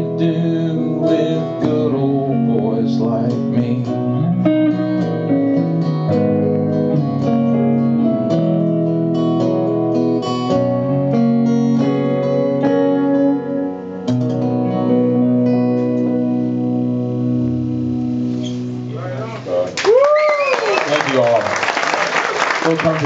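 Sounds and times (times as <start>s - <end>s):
acoustic guitar strummed and picked: 0.0s - 19.7s
live country band playing: 0.0s - 19.7s.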